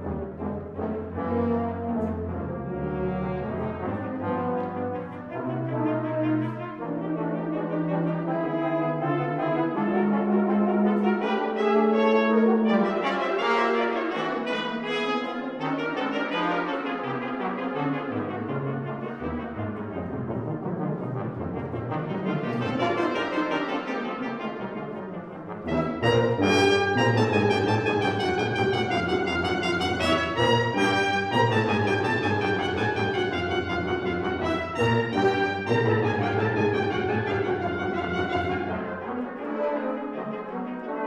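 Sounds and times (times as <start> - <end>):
brass choir playing sustained chords: 0.0 - 41.0.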